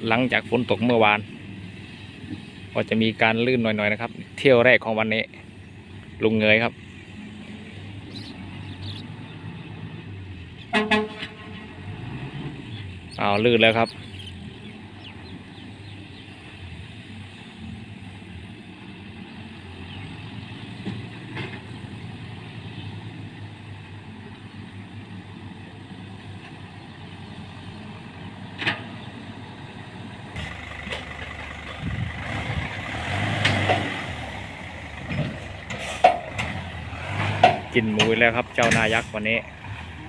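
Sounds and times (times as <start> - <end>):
truck engine running: 5.4 - 40.0.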